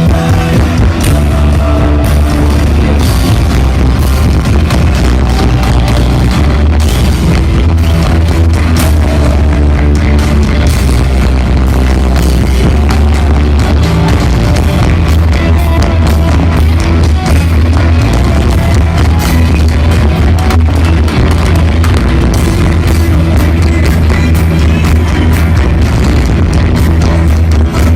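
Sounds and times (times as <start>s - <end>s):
driving drum beat: 0.0s - 27.9s
heavy bass line: 0.0s - 27.9s
rock band playing: 0.0s - 27.9s.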